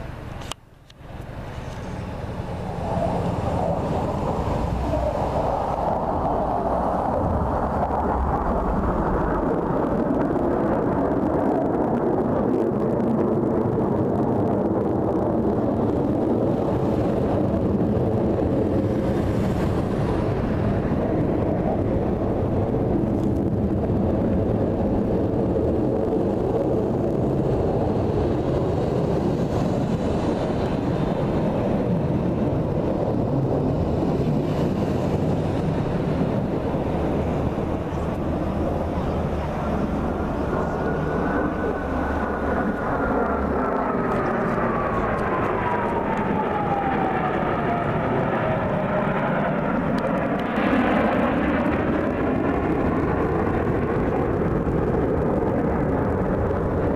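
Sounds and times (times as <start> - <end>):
aircraft engines rumbling: 0.0 - 56.9
wind on microphone: 0.0 - 56.9.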